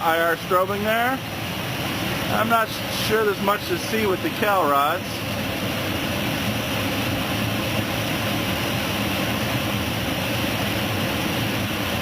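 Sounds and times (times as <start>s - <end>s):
machine blowers rushing air: 0.0s - 12.0s.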